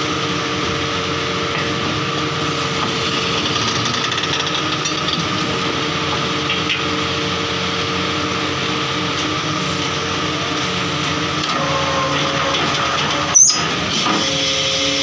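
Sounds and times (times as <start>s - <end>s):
drilling rig running: 0.0s - 15.0s.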